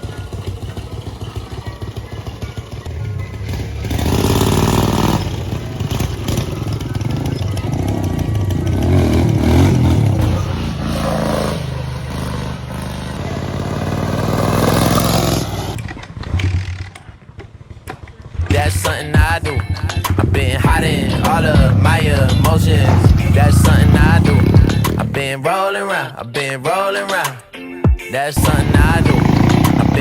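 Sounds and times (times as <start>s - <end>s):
pit bike engine revving: 0.0s - 25.4s, 28.4s - 30.0s.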